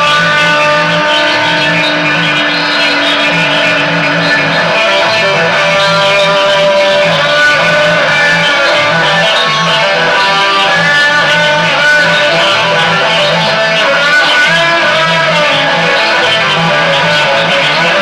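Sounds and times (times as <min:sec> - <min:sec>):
electric guitar melody: 0:00.0 - 0:18.0
live rock band playing: 0:00.0 - 0:18.0.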